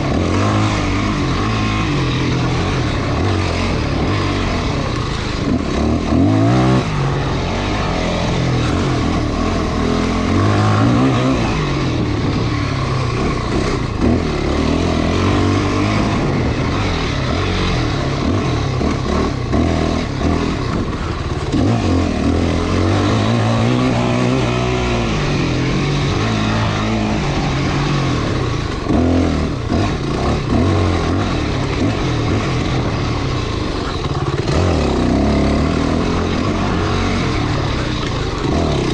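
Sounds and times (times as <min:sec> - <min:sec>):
dirt bike engine revving: 0:00.0 - 0:38.9
steady rush of noise: 0:00.0 - 0:38.9.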